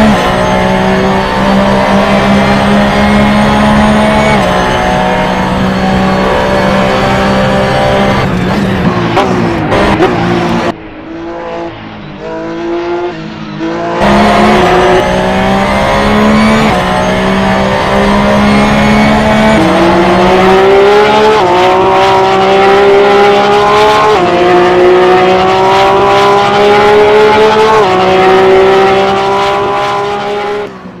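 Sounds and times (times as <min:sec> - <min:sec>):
race car engine running hard: 0:00.0 - 0:31.0.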